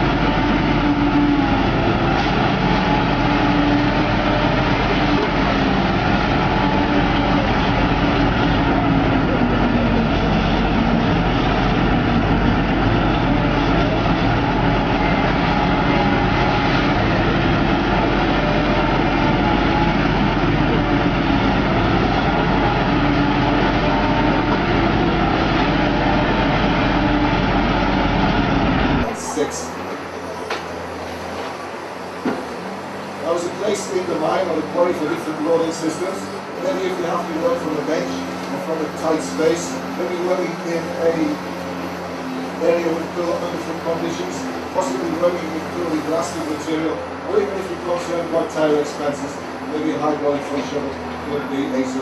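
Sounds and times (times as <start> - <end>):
diesel machinery engine hum: 0.0 - 52.0.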